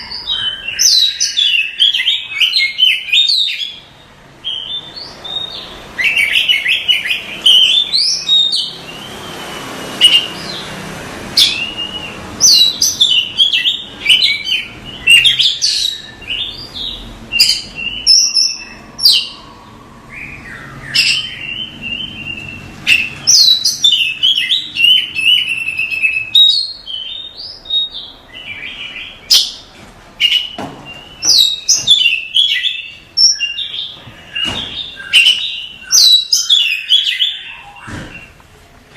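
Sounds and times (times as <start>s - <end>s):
songbird singing: 0.0s - 38.4s.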